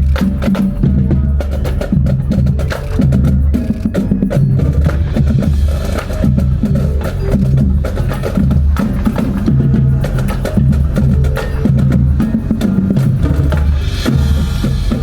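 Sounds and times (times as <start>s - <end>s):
drum and percussion hits: 0.0s - 15.0s
wind band playing loudly: 0.0s - 15.0s.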